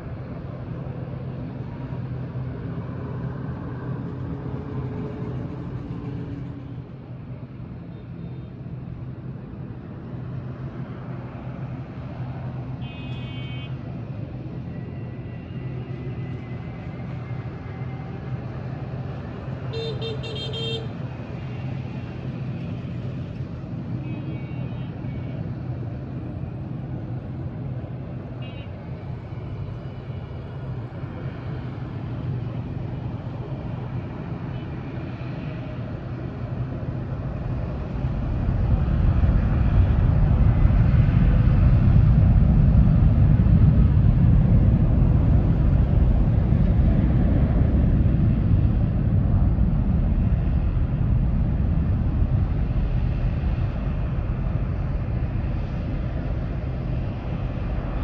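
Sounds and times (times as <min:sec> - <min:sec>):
distant engines rumbling: 0:00.0 - 0:58.0.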